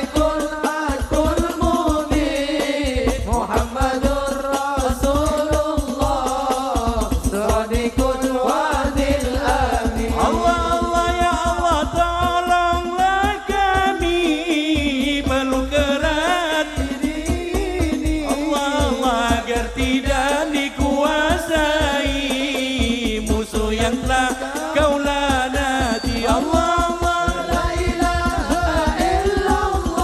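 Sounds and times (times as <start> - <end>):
busy drum rhythm: 0.0 - 30.0
man singing into a microphone: 0.0 - 30.0.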